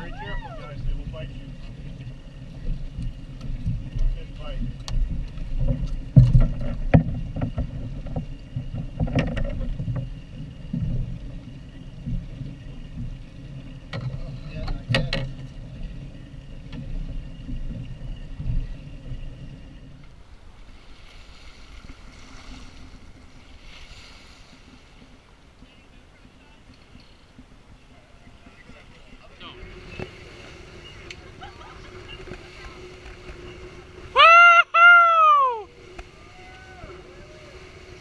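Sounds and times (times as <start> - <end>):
water hissing along bow: 0.0 - 38.0
wind buffeting microphone: 0.0 - 38.0.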